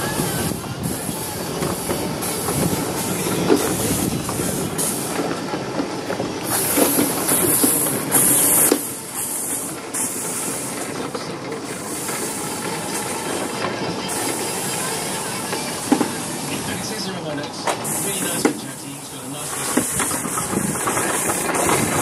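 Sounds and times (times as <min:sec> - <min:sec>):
miniature train rolling on rails: 0:00.0 - 0:22.0
steam hissing: 0:00.0 - 0:22.0.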